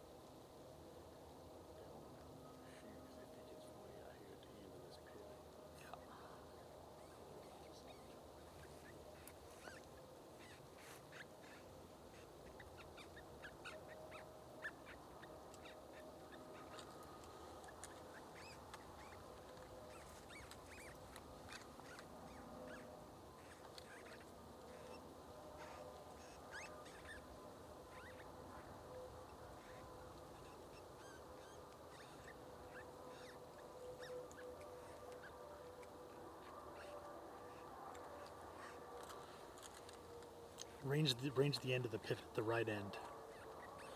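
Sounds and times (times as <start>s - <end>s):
distant geese honking: 7.2s - 43.9s.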